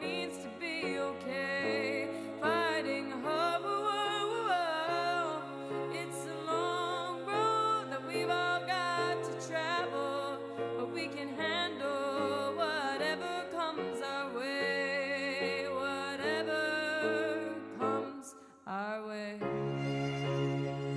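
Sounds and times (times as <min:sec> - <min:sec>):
slow song with held notes: 0:00.0 - 0:20.9.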